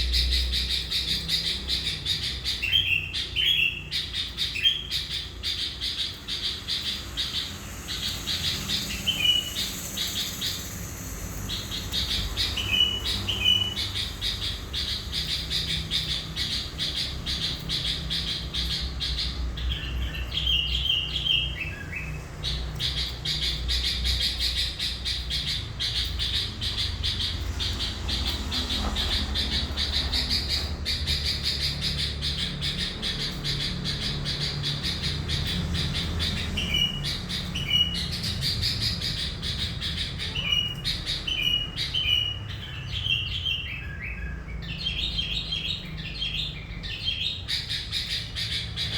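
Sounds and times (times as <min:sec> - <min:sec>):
bird singing chatter and whistles: 0:00.0 - 0:48.9.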